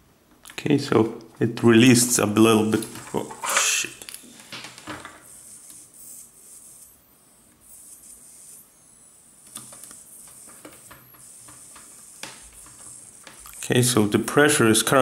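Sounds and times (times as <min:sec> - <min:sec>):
faint hiss of gas venting: 0:00.4 - 0:15.0.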